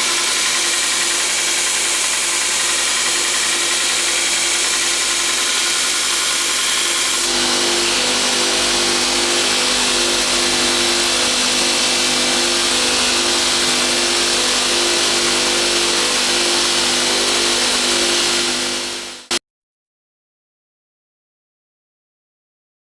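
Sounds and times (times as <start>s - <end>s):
belt grinder running: 0.0s - 19.4s.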